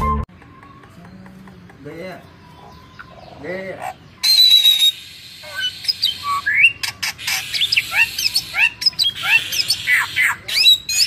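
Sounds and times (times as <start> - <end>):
myna calling: 0.4 - 11.0.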